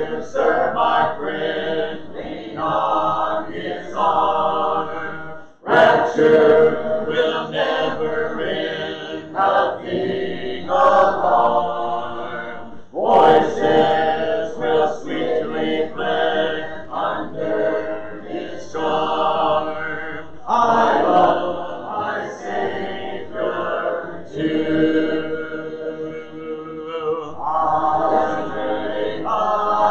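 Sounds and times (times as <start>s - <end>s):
congregation singing a hymn: 0.0s - 29.9s.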